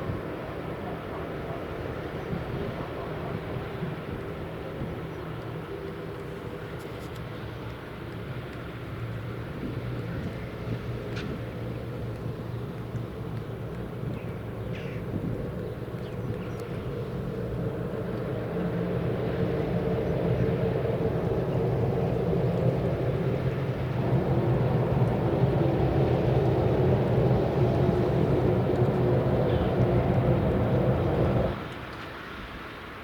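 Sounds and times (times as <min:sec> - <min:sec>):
railway locomotive engine running: 0:00.0 - 0:33.0.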